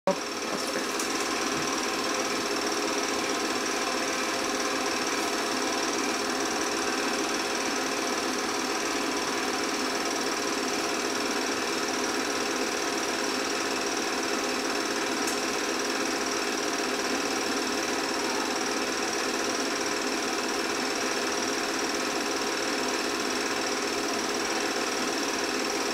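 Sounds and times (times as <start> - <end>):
film projector clattering: 0.1 - 25.9.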